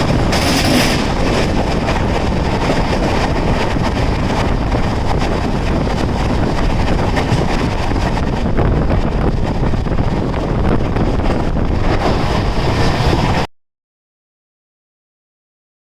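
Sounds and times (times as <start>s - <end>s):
train rumbling past: 0.0s - 13.4s
wind buffeting microphone: 0.0s - 13.5s.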